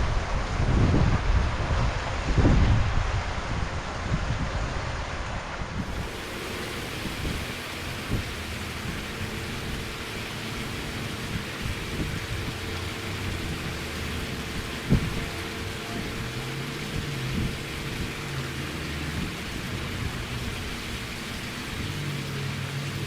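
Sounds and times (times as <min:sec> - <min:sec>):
low uneven rumble: 0:00.0 - 0:23.0
steady rushing noise: 0:00.0 - 0:23.0.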